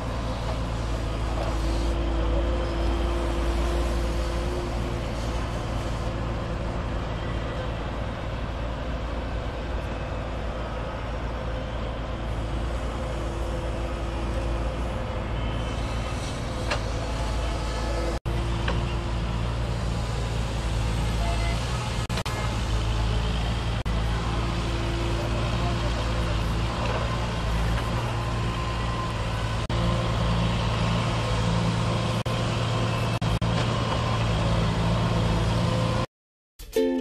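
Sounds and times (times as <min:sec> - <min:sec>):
excavator engine droning: 0:00.0 - 0:36.1.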